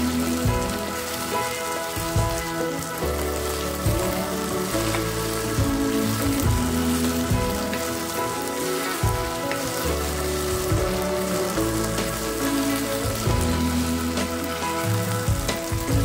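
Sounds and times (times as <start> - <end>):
background music with bass line: 0.0 - 16.0
okra hissing in hot oil: 0.0 - 16.0.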